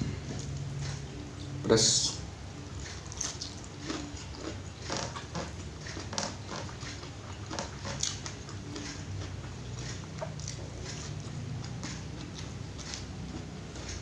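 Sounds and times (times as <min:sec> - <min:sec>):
person chewing and lip-smacking: 0:02.6 - 0:14.0.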